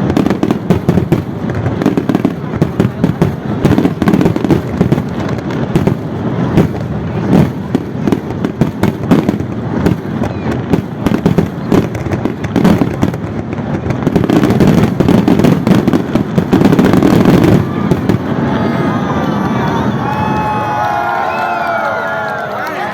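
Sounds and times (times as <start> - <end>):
fireworks booming and crackling: 0.0 - 22.9.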